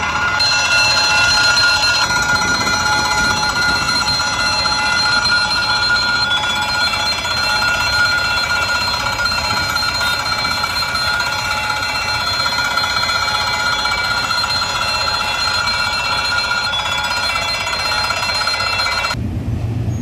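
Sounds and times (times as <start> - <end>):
level crossing warning bell: 0.0 - 19.2.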